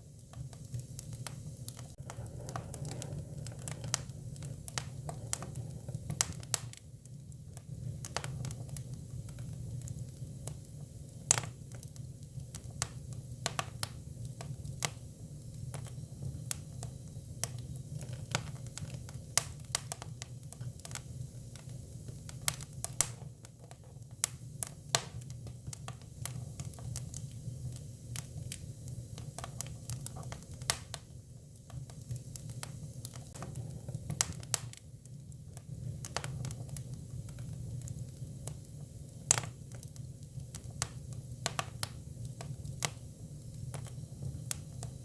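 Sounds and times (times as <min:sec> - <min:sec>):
firewood burning and crackling: 0:00.0 - 0:45.0.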